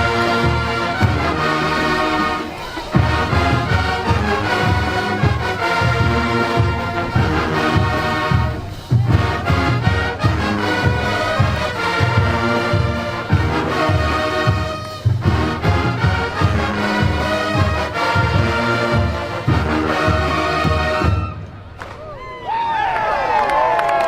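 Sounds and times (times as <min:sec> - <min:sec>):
steady drum beat: 0:00.0 - 0:21.4
marching band brass: 0:00.0 - 0:22.2.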